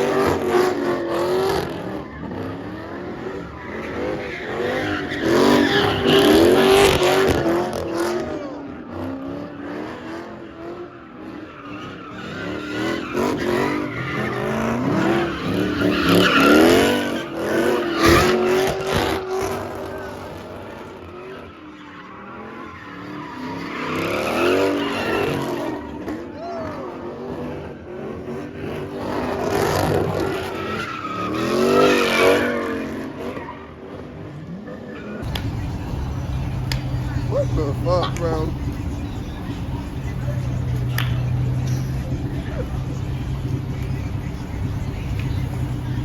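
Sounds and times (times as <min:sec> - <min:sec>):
car engines revving: 0:00.0 - 0:46.0
tires squealing: 0:00.0 - 0:46.0.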